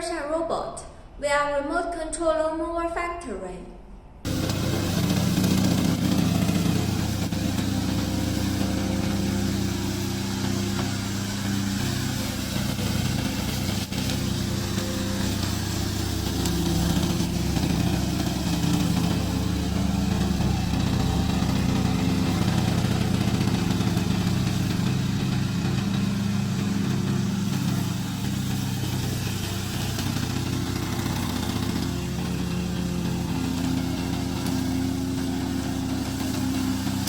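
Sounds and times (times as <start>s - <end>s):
lawn mower engine running: 4.3s - 37.0s.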